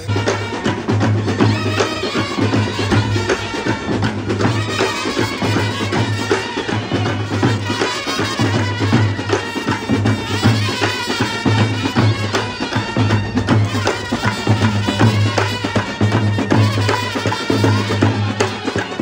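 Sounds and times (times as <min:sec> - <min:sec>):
snare and bass drums: 0:00.0 - 0:19.0
trumpets playing melody: 0:00.0 - 0:19.0.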